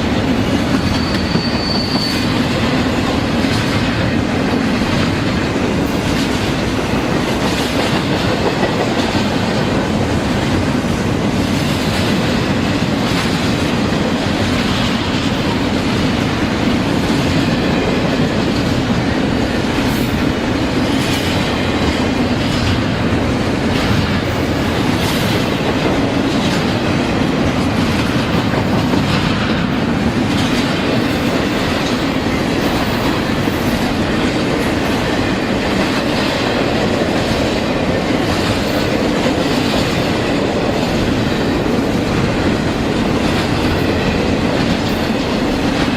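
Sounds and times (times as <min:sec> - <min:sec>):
train wheels rolling on rails: 0:00.0 - 0:45.9.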